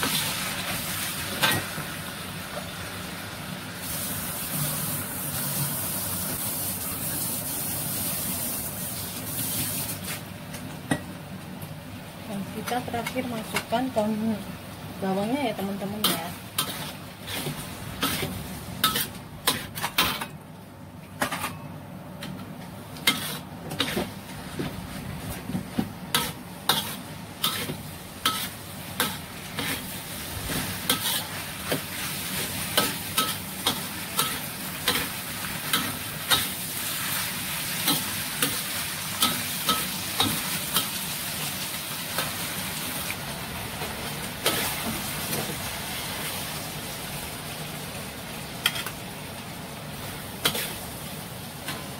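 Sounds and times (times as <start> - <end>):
food sizzling in a wok: 0.0 - 10.4, 11.9 - 20.3, 22.8 - 51.9.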